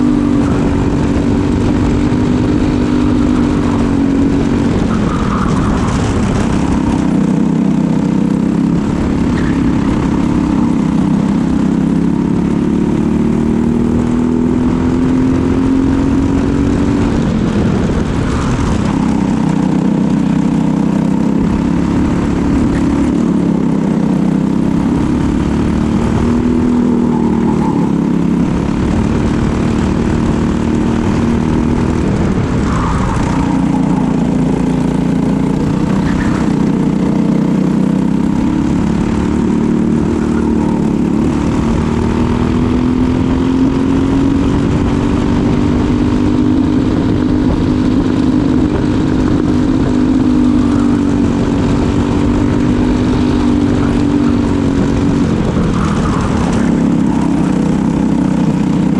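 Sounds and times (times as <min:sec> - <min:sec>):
kart engine revving: 0:00.0 - 0:58.9.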